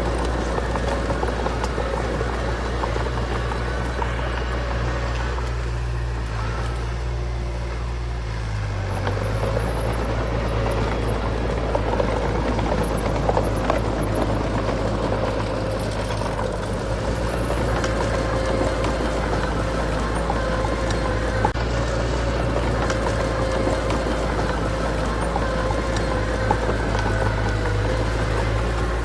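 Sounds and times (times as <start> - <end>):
heavy machinery diesel engine running: 0.0 - 29.0.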